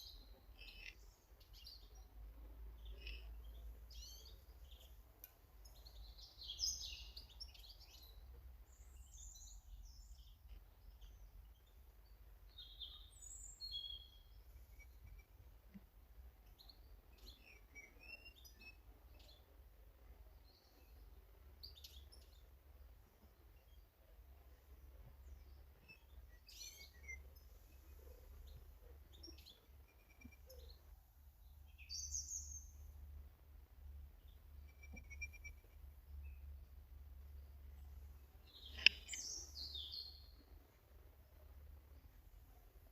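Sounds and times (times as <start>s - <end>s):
low steady hum: 0.0s - 42.9s
small birds chirping: 0.0s - 42.9s.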